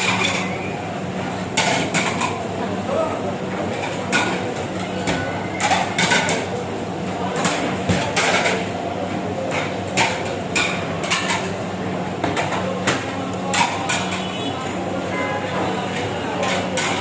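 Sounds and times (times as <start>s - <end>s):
cooking utensils clattering: 0.0s - 2.6s, 3.6s - 8.8s, 9.4s - 14.4s, 15.4s - 17.0s.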